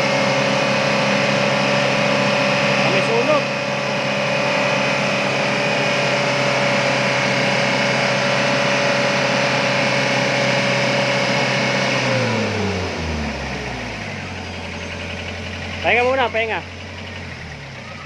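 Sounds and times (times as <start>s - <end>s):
van engine revving: 0.0s - 18.0s.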